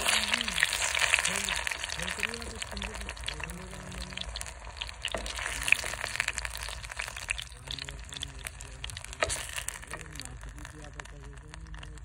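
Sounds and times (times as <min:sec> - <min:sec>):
hot oil bubbling and crackling: 0:00.0 - 0:12.0.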